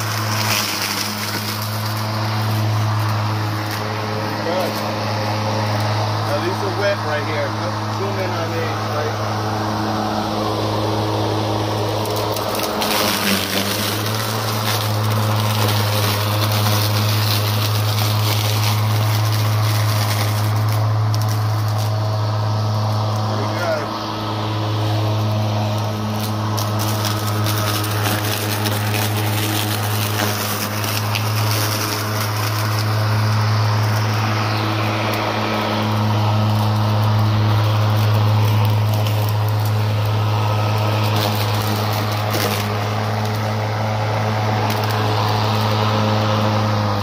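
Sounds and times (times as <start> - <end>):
lawn mower humming: 0.0 - 47.0
leaves ticking against mower deck: 0.0 - 47.0.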